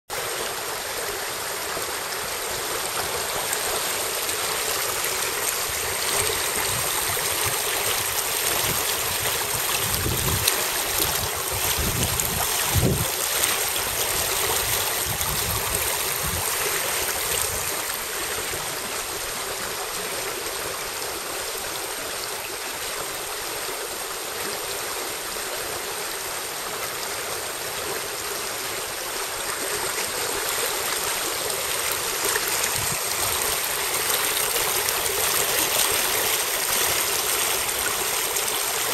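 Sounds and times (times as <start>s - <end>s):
stream rushing over stones: 0.1s - 38.9s.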